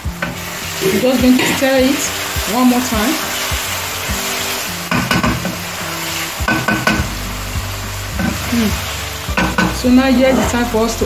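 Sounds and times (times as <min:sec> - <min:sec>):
sauce sizzling in hot oil: 0:00.0 - 0:11.0
spatula scraping and knocking pan: 0:00.2 - 0:07.2, 0:08.2 - 0:11.0.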